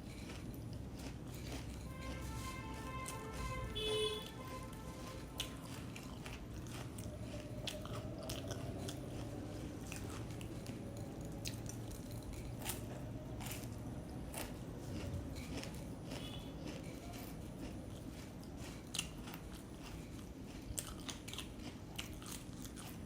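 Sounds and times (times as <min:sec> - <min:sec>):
chewing crunchy food: 0:00.0 - 0:03.6, 0:04.2 - 0:23.0.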